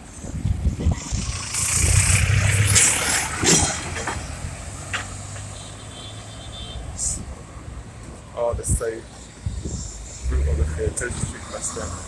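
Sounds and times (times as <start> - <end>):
vehicle passing close by: 0.7 - 7.9, 9.4 - 12.0.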